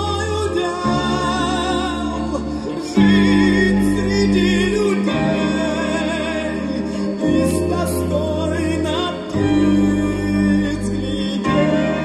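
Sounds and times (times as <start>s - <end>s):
pop ballad from vinyl record: 0.0s - 12.0s.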